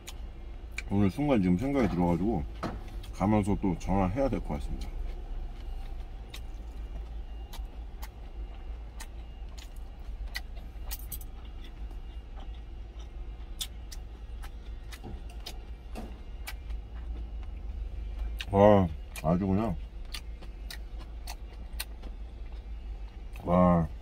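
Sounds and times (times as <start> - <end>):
steady low hum: 0.0 - 24.0
person chewing: 4.6 - 24.0.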